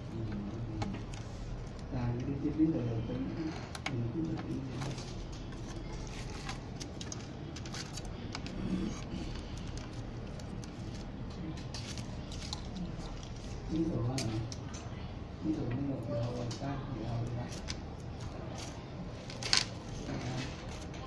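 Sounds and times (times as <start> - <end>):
wires and cables clicking and rustling: 0.0 - 2.4, 3.4 - 15.0, 15.7 - 21.0.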